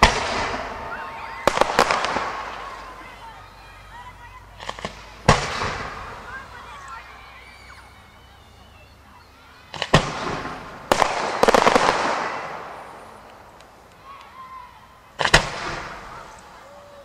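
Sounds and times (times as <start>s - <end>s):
firework bangs: 0.0s - 7.8s, 9.5s - 13.9s, 15.2s - 16.6s
firework crackling: 0.0s - 17.0s.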